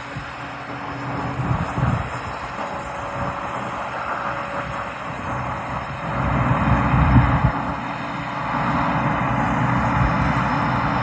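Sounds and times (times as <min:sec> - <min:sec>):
engine running with low hum: 0:00.0 - 0:11.0
rushing noise: 0:00.0 - 0:11.0.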